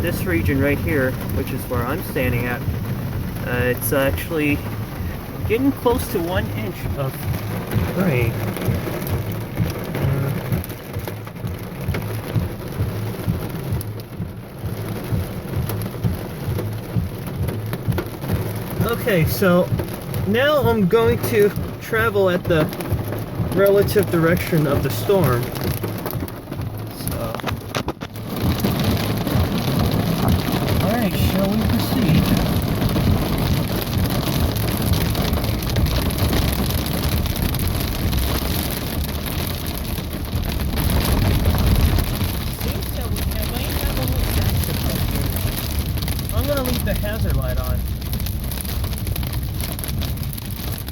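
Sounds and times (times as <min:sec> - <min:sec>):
heavy rain pelting a vehicle: 0:00.0 - 0:50.9
low uneven rumble: 0:00.0 - 0:50.9
tyres on wet road: 0:00.0 - 0:50.9.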